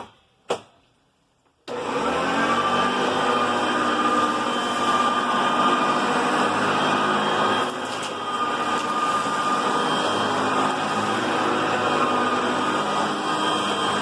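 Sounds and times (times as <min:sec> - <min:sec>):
upright vacuum running: 0:01.7 - 0:14.0.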